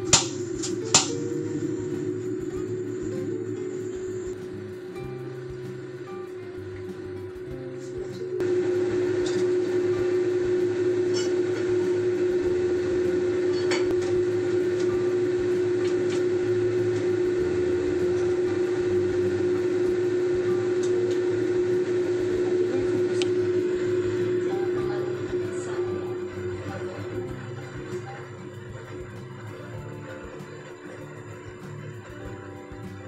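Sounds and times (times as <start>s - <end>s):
range hood fan humming: 0.0s - 33.0s.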